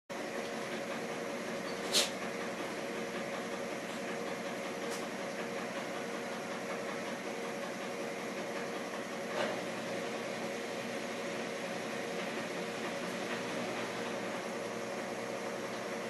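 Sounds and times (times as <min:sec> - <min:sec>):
steady mechanical hum: 0:00.1 - 0:16.0.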